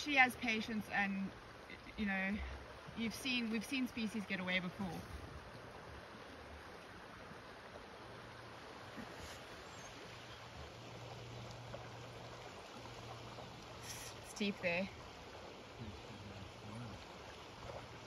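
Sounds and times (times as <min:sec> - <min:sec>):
flowing river rushing: 0:00.0 - 0:18.0
low steady hum: 0:00.0 - 0:18.0.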